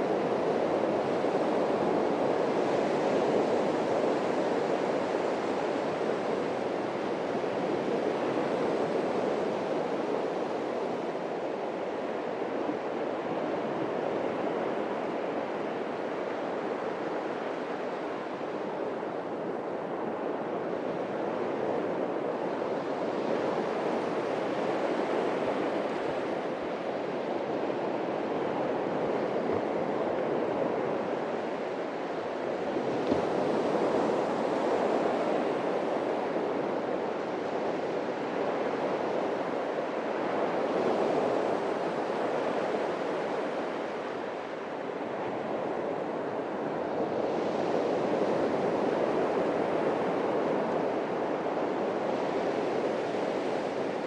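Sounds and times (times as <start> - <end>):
surf washing on a beach: 0.0 - 54.0.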